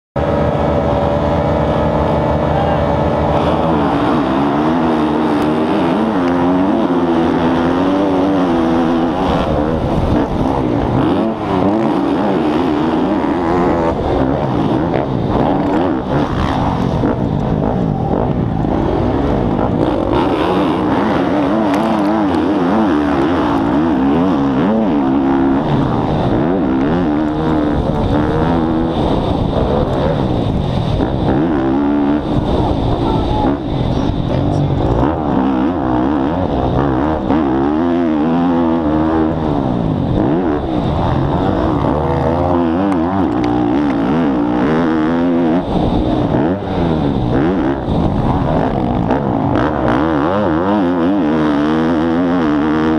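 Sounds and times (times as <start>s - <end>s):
motocross bike engine revving: 0.2s - 52.9s.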